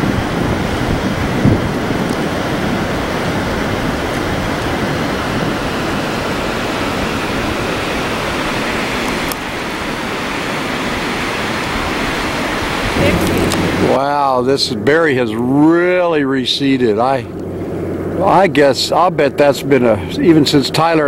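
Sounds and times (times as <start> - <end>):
low buffeting on microphone: 0.0 - 21.0
rushing wind and water: 0.0 - 21.0.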